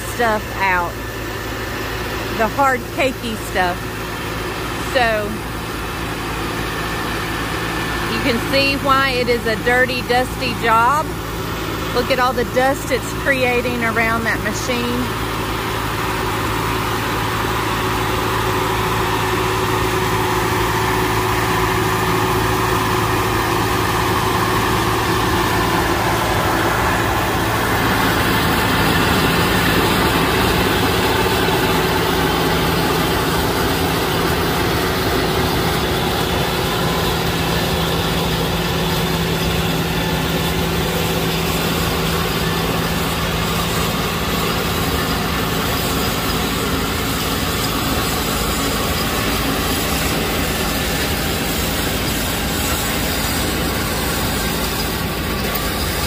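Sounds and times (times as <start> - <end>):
tractor engine din: 0.0 - 56.0.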